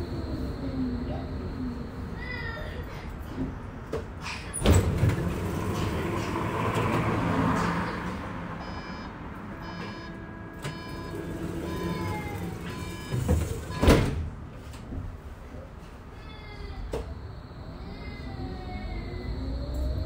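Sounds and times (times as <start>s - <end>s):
tram rolling noise: 0.0s - 20.0s.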